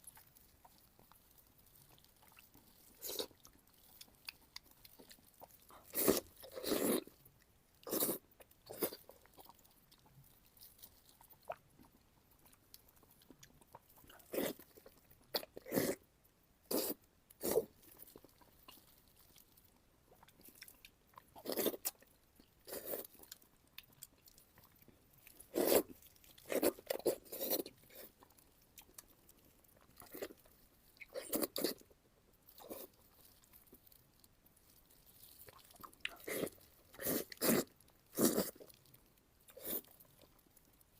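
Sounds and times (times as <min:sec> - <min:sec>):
wet chewing crunches: 0:00.0 - 0:16.0, 0:16.7 - 0:40.9.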